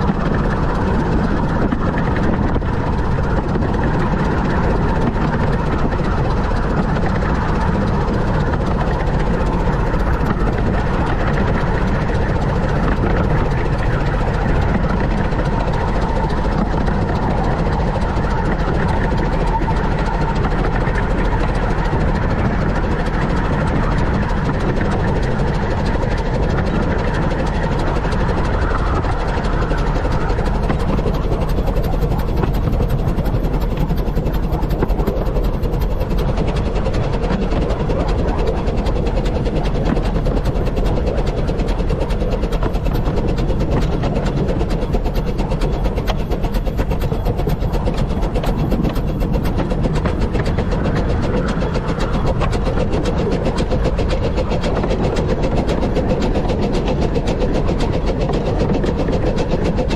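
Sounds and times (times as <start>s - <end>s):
train rumbling along: 0.0s - 59.9s.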